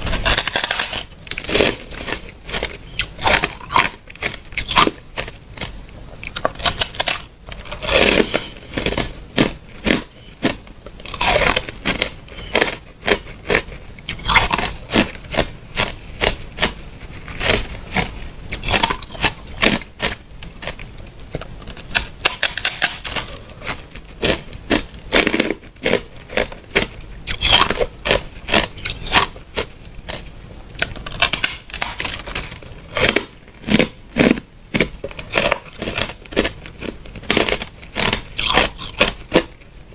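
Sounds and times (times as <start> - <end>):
ice being chewed and crunched: 0.0 - 39.6.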